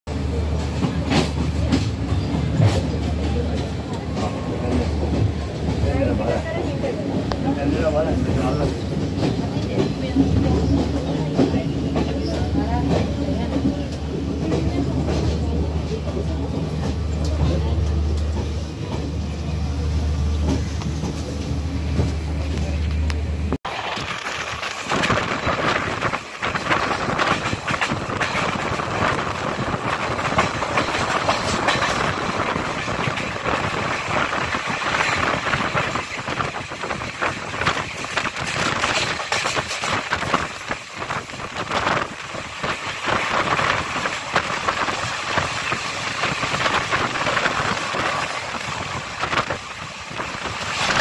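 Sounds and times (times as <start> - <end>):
train wheels rumbling on rails: 0.1 - 51.0.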